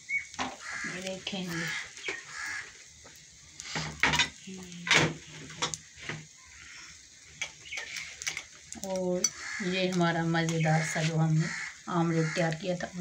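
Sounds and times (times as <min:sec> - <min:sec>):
bread sizzling in oil: 0:00.0 - 0:13.0.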